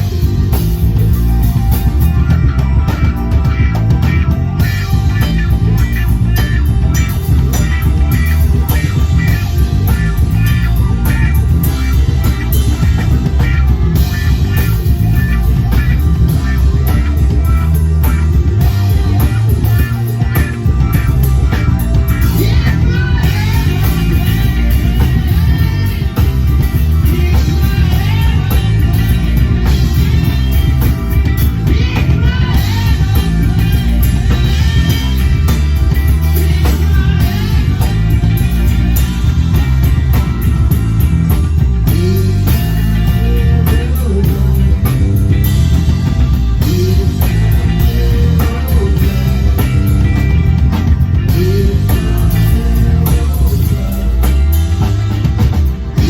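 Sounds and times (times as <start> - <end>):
loud rock music: 0.0 - 56.0
person singing: 0.0 - 56.0.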